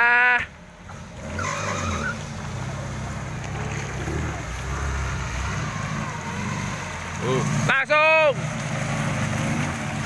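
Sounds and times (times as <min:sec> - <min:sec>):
car engine running: 0:00.5 - 0:10.0.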